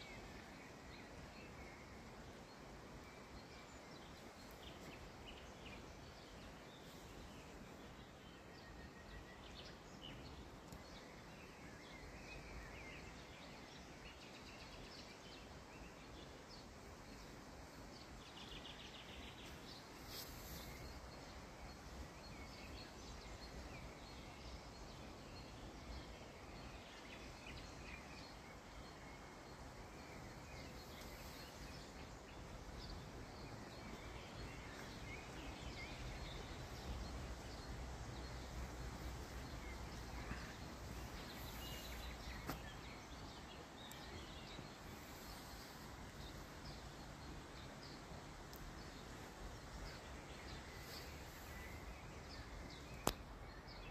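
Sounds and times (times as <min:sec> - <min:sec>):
open-air background noise: 0:00.0 - 0:53.9.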